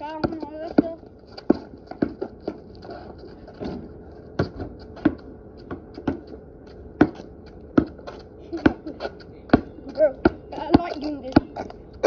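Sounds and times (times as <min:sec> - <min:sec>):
basketball bouncing on pavement: 0:00.0 - 0:12.0.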